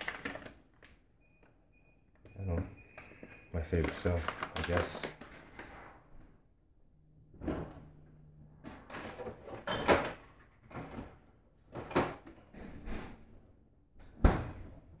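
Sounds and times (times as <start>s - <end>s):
items knocking and rattling in fridge door: 0.0s - 0.8s, 2.6s - 6.2s, 7.3s - 15.0s.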